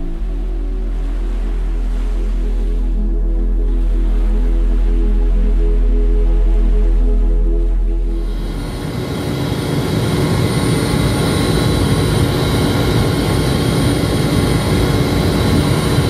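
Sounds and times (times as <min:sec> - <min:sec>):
engine roar: 0:00.0 - 0:16.0
high steady whine: 0:00.0 - 0:16.0.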